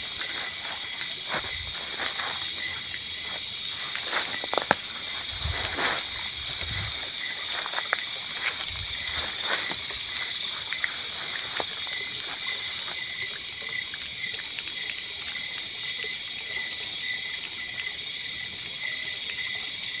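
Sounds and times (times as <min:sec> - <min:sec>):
night insects trilling: 0:00.0 - 0:20.0.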